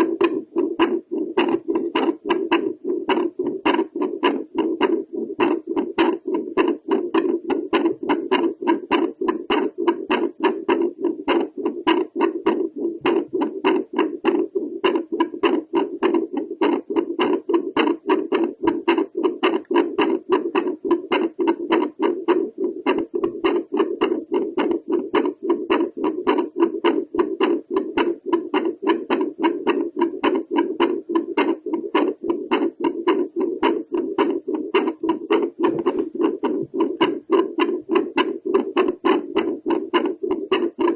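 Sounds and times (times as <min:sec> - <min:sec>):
heartbeat pulses on doppler: 0:00.0 - 0:40.9.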